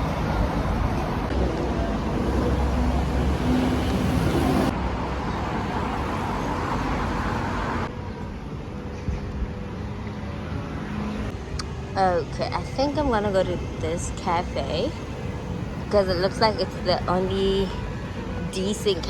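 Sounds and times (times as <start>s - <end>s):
car and road noise: 0.0s - 19.0s.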